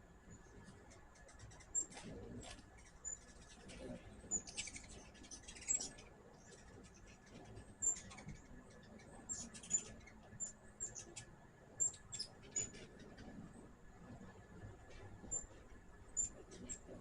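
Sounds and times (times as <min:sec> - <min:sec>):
hummingbirds chipping: 0:00.0 - 0:17.0.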